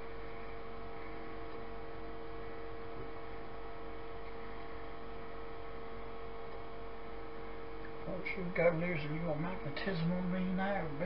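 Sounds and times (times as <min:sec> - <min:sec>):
computer hum: 0:00.0 - 0:11.0.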